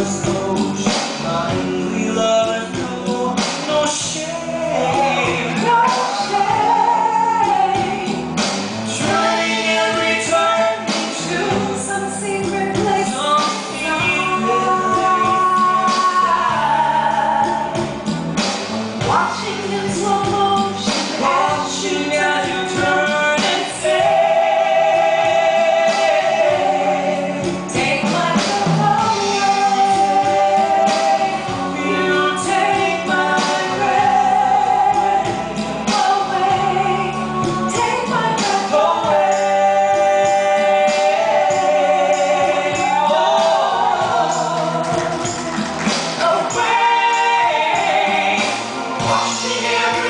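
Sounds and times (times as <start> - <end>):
stage-show music with singing: 0.0 - 50.0.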